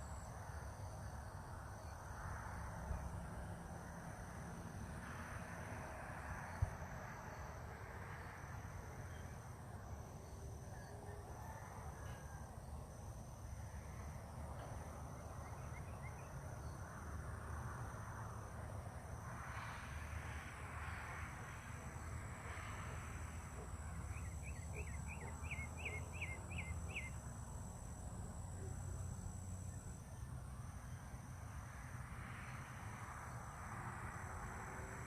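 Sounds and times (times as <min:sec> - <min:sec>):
high insect drone: 0:00.0 - 0:35.0.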